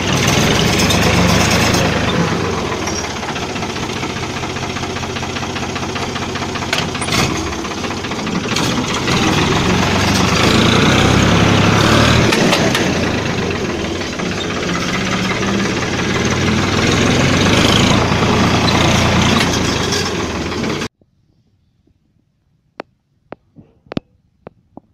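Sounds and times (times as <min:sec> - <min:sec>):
tractor diesel engine revving: 0:00.0 - 0:20.9.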